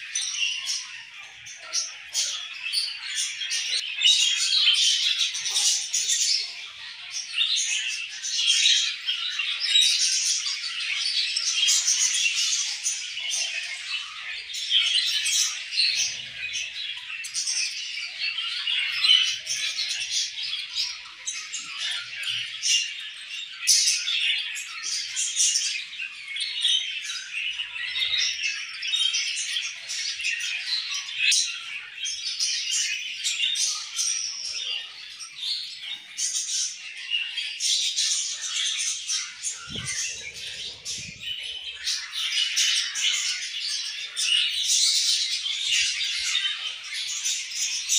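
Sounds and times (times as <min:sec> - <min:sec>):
budgerigars chirping and chattering: 0:00.0 - 0:47.9.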